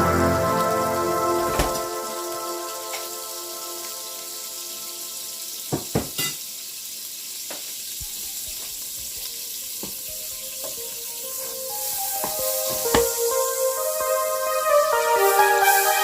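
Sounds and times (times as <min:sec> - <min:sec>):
food sizzling in a pan: 0:00.1 - 0:16.0.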